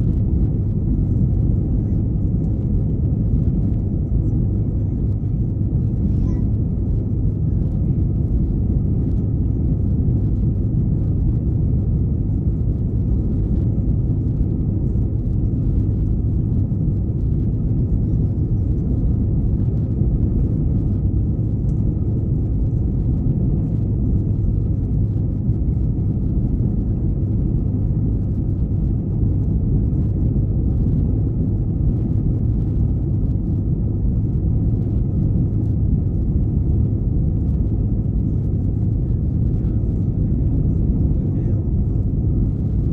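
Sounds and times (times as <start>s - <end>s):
faint steady whine: 0.0s - 42.9s
jet engine cabin rumble: 0.0s - 42.9s.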